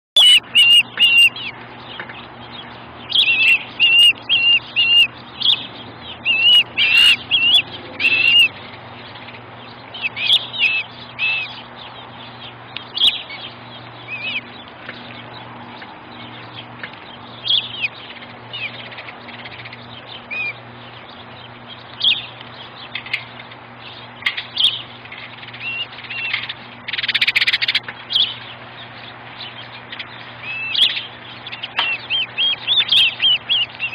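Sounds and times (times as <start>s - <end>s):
faint steady hum: 0.2s - 33.9s
ospreys calling: 0.2s - 33.9s.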